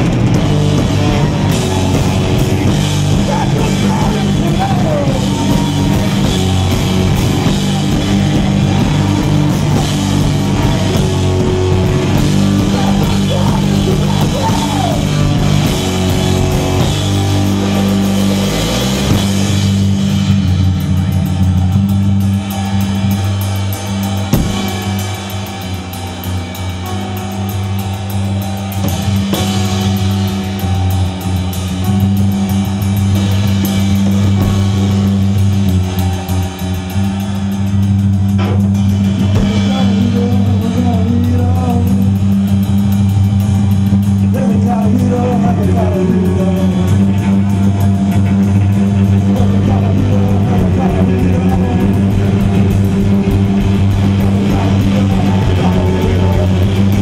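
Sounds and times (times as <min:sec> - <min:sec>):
electric guitars: 0:00.0 - 0:57.0
rock music drums: 0:00.0 - 0:57.0.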